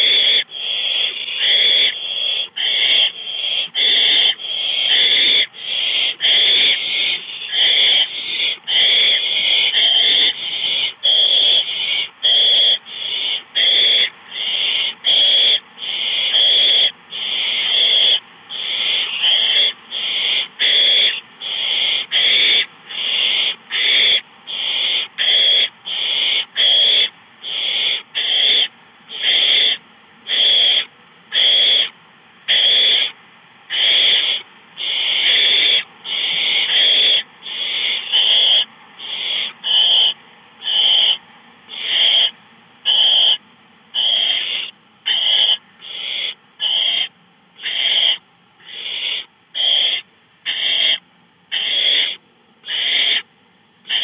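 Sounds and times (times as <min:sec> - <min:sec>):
owlets hissing begging calls: 0:00.0 - 0:43.4, 0:44.0 - 0:53.3.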